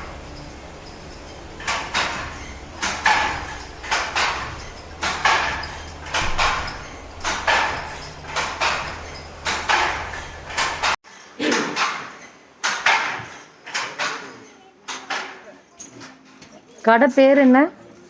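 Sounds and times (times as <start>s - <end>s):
handloom double clack: 0.0s - 15.4s.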